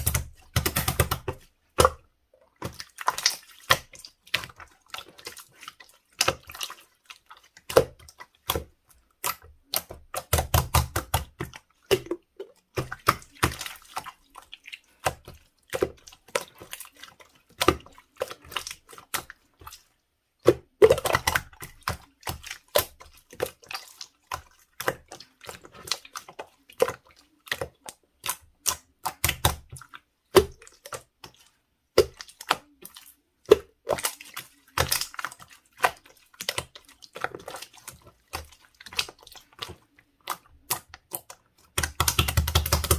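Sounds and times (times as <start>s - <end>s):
slime squished by hand: 2.6s - 42.9s.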